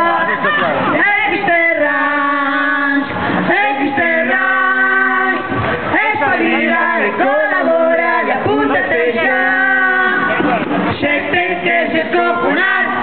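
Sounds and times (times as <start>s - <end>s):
group singing through a microphone: 0.0s - 13.0s.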